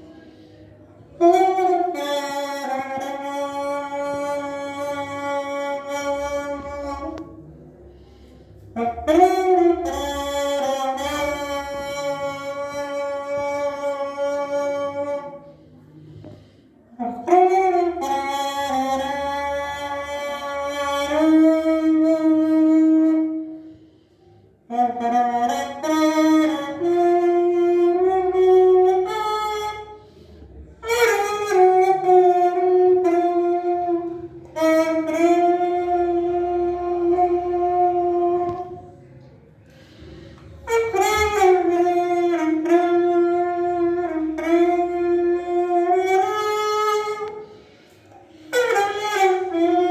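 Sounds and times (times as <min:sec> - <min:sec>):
buzzy bottle horn melody: 0:00.8 - 0:49.9.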